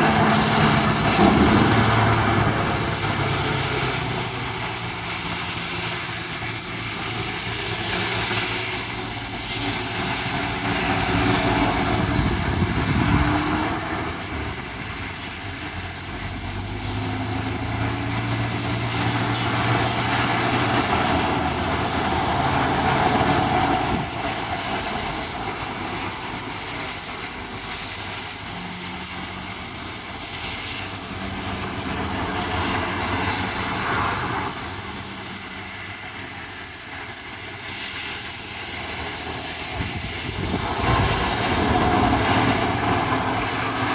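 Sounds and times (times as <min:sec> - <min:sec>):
vehicles passing: 0:00.0 - 0:36.6, 0:38.8 - 0:43.9
rain: 0:00.0 - 0:43.9
wind: 0:00.0 - 0:43.9.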